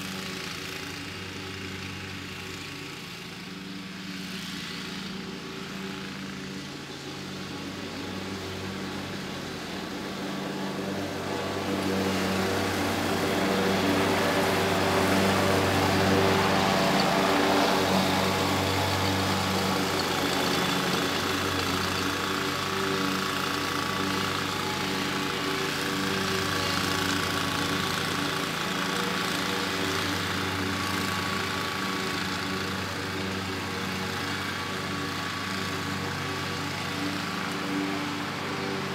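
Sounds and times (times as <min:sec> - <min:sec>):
riding mower engine drone: 0:00.0 - 0:38.9.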